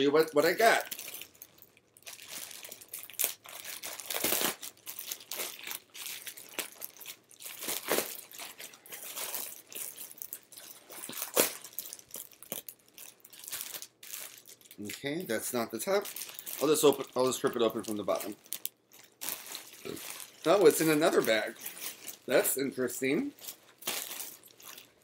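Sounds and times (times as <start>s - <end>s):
plastic bag crinkling: 0.4s - 25.0s.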